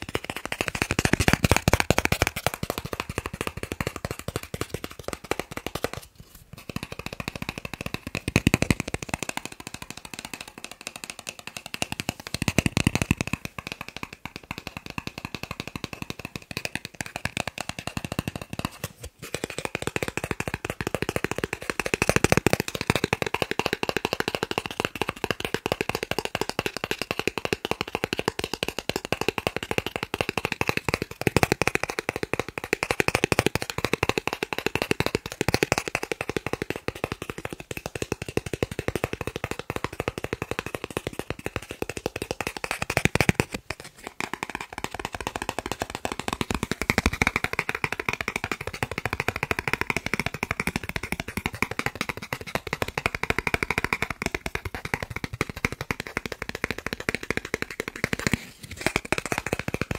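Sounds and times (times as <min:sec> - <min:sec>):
fingers tapping plastic cards: 0:00.0 - 0:59.9.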